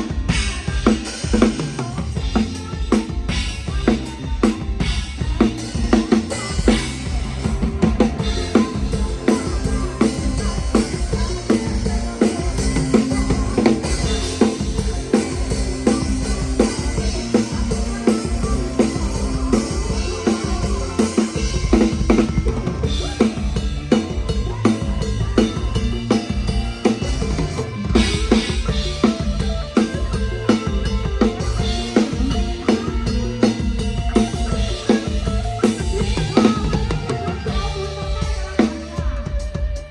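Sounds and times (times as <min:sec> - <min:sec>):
drum kit playing driving beat: 0:00.0 - 0:39.9
live band music: 0:00.0 - 0:39.9.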